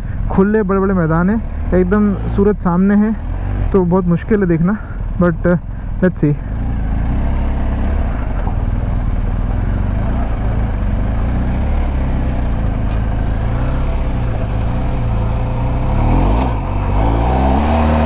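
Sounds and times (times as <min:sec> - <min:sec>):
motorcycle engine running: 0:00.0 - 0:18.0
tyres on dirt road: 0:00.0 - 0:18.0.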